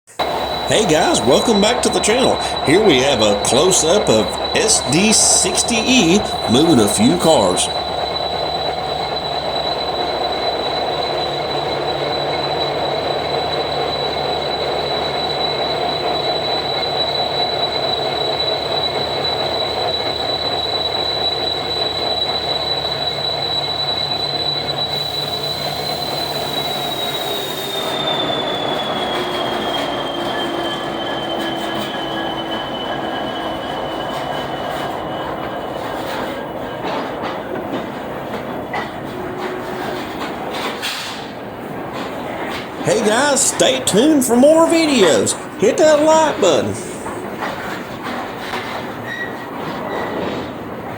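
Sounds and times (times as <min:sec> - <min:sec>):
diesel locomotive engine rumbling: 0:00.1 - 0:50.9.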